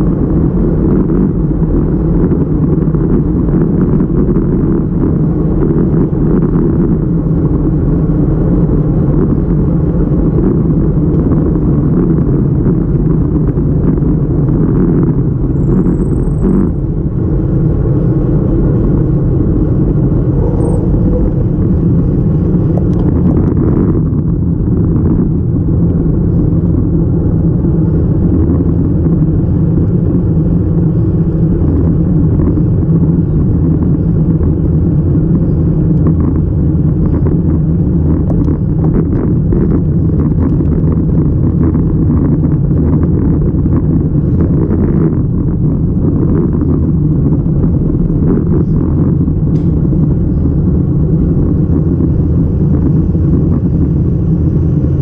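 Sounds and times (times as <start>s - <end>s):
bike tyres rolling on asphalt: 0.0s - 55.0s
wind buffeting camera: 0.0s - 55.0s.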